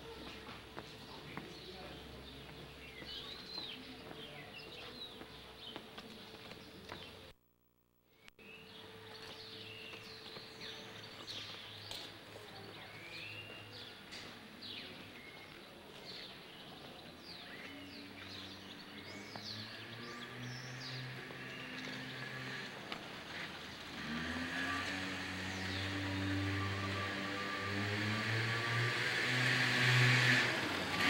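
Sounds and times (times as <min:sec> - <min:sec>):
small birds chirping: 0:00.0 - 0:07.3, 0:08.2 - 0:28.6.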